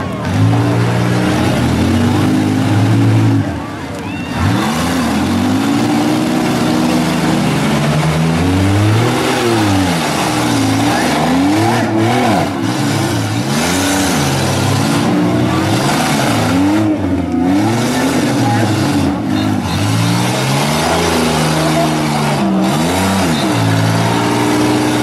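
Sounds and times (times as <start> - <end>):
minivan engines revving hard: 0.0 - 25.0.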